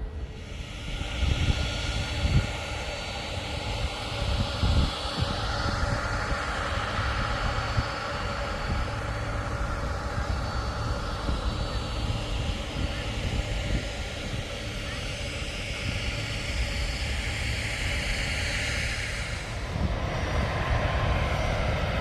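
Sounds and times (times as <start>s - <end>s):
jet engine whine: 0.0s - 22.0s
wind buffeting microphone: 0.0s - 22.0s.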